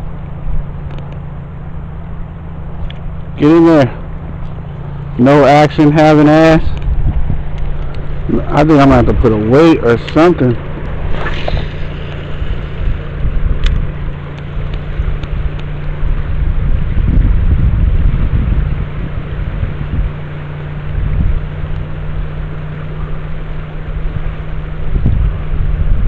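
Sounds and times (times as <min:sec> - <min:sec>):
low hum: 0:00.0 - 0:26.0
wind buffeting microphone: 0:02.7 - 0:22.4, 0:23.9 - 0:26.0.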